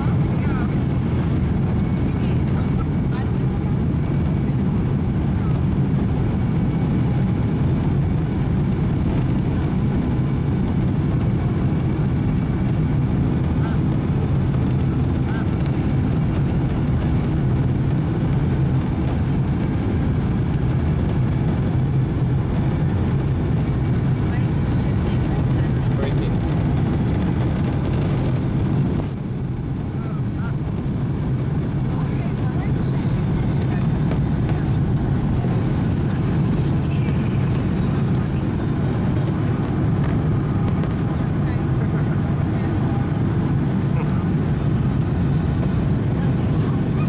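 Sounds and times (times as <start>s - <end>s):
jet engines low rumble in cabin: 0.0s - 47.0s.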